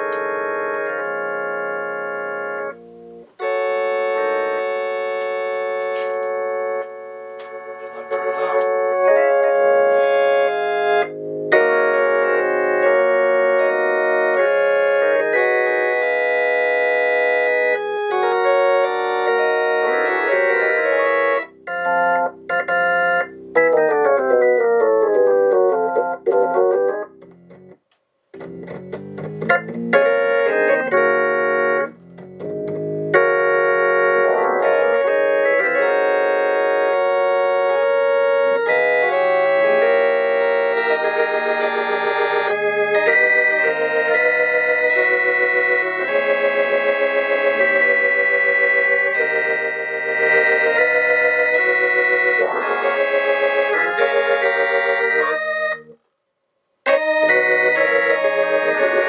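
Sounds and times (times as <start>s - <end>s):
organ chords through rotating speaker: 0.0s - 56.1s, 56.8s - 59.0s.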